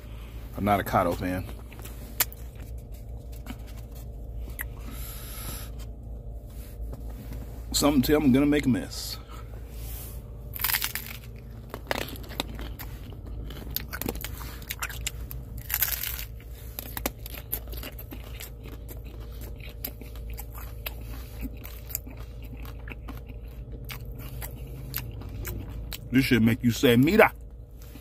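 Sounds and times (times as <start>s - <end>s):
person chewing crunchy food: 1.0s - 7.4s, 10.2s - 28.0s.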